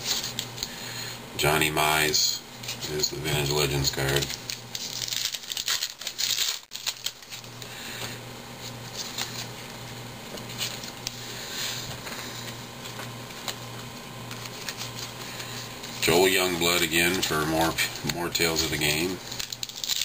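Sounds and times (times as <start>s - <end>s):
foil pack crinkling: 2.6s - 9.8s, 10.4s - 20.0s.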